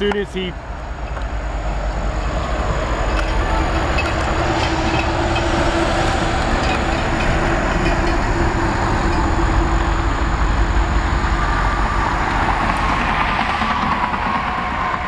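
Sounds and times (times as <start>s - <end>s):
diesel locomotives idling: 0.0s - 15.0s.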